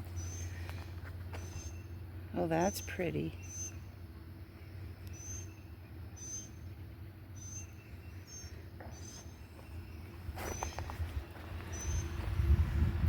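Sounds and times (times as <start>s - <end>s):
low steady rumble: 0.0s - 13.0s
small bird chirping: 0.1s - 12.2s.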